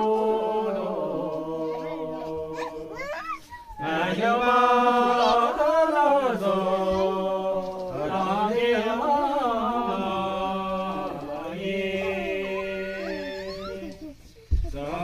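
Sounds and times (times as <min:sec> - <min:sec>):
man singing unaccompanied: 0:00.0 - 0:03.0, 0:03.8 - 0:15.0.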